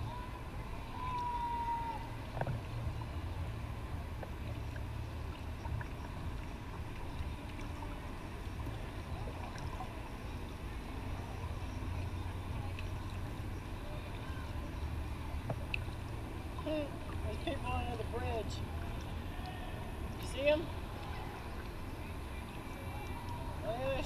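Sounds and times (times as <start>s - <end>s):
faint water sounds: 0.0s - 24.0s.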